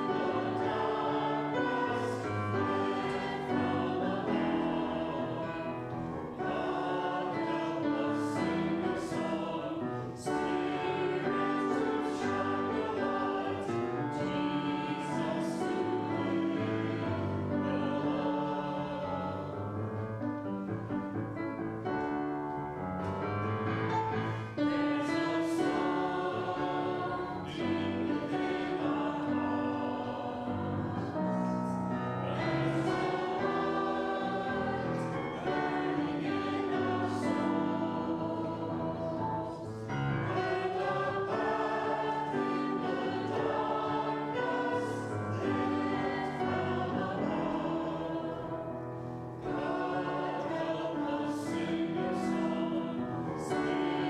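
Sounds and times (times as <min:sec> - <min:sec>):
group singing a hymn: 0:00.0 - 0:20.0, 0:24.1 - 0:54.0.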